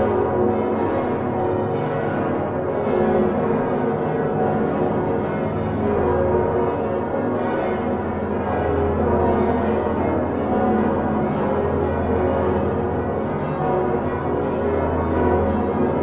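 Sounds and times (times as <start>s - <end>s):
church bells ringing in full peal: 0.0s - 16.0s.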